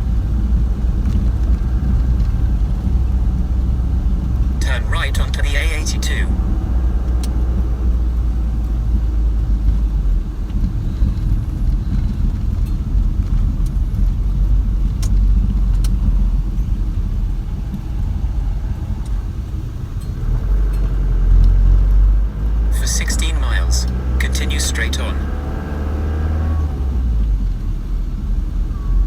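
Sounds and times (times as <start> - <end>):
van engine and tyres rumbling: 0.0 - 29.0.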